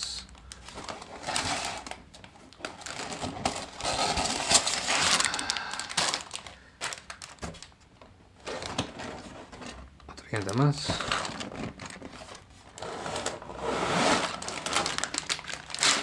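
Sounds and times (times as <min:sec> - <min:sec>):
plastic bags crinkling: 0:00.4 - 0:07.8, 0:08.4 - 0:12.5, 0:14.1 - 0:16.0.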